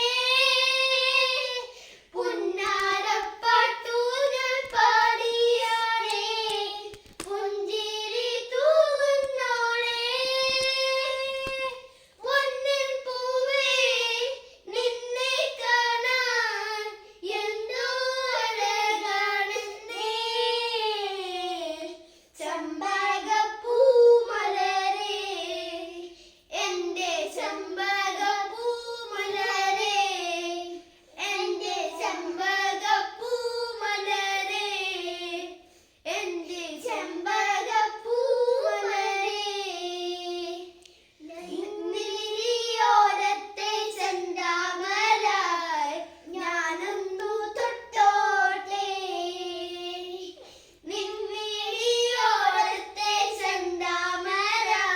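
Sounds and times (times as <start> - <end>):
child singing unaccompanied: 0.0 - 54.9.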